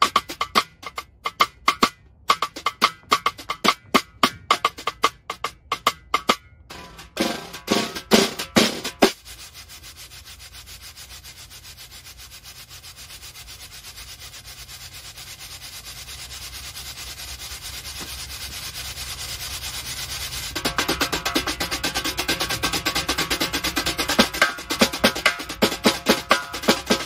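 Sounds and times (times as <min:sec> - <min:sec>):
snare drum brush strokes: 0:00.0 - 0:27.0.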